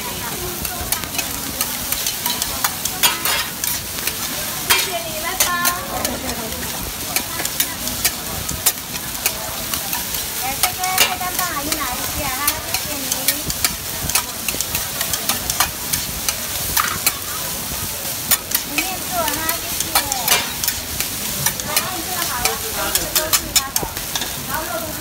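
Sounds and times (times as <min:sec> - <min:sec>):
food sizzling: 0:00.0 - 0:25.0
metal spatulas clacking on griddle: 0:00.2 - 0:17.3, 0:18.2 - 0:24.6.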